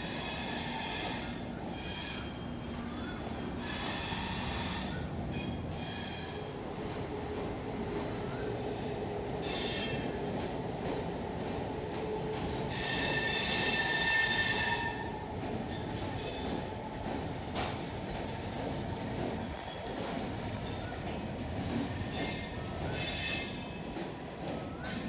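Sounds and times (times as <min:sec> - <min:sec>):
train wheels squealing: 0:00.0 - 0:06.6, 0:07.8 - 0:10.4, 0:12.7 - 0:16.7, 0:17.7 - 0:25.0
train rolling rumble: 0:00.0 - 0:25.0.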